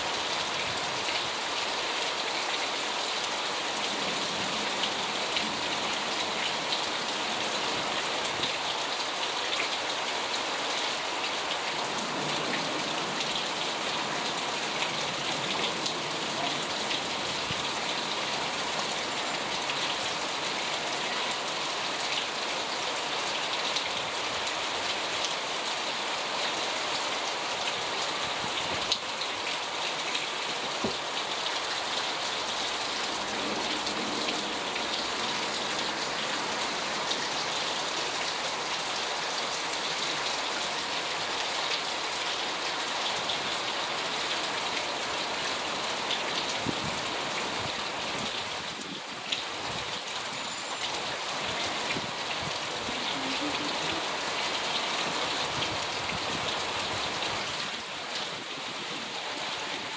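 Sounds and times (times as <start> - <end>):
heavy rain falling: 0.0 - 59.9
raindrops tapping nearby surfaces: 0.5 - 59.9.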